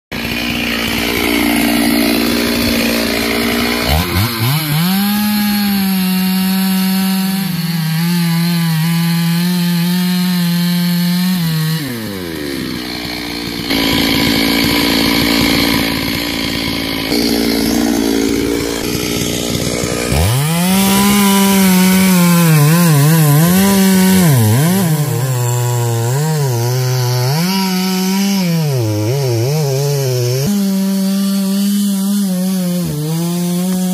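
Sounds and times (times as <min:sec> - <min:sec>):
chainsaw cutting wood: 0:00.1 - 0:33.9
chainsaw idling and revving: 0:00.1 - 0:33.9.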